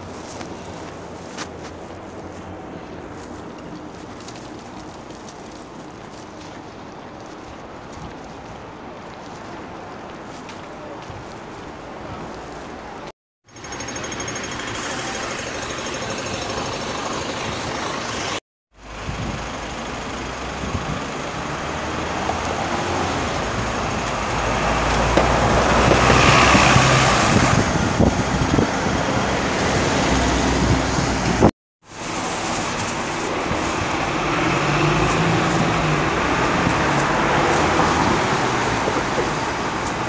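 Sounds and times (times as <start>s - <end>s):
cars and buses passing: 0.0s - 40.0s.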